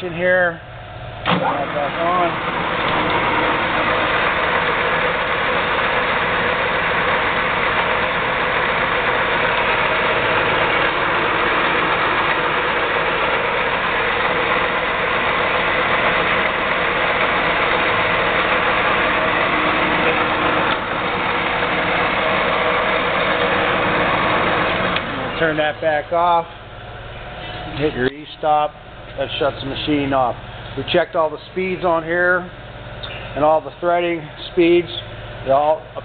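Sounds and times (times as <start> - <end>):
lathe running with steady whir: 0.6 - 33.0.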